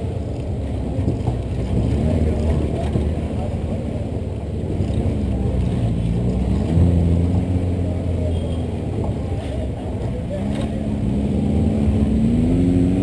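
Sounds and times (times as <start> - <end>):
van engine driving off-road: 0.0 - 13.0.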